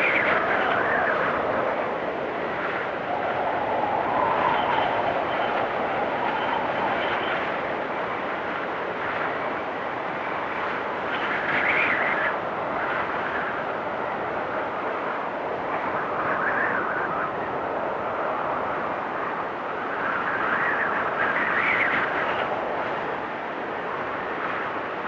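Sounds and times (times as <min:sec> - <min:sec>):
blizzard wind gusting: 0:00.0 - 0:25.0.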